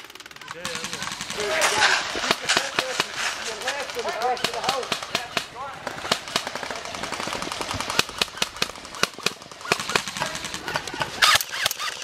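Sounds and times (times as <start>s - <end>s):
airsoft automatic fire: 0.0s - 12.0s.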